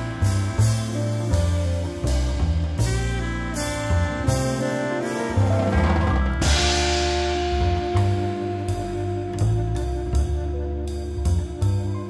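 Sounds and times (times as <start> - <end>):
instrumental jazz music: 0.0 - 12.0.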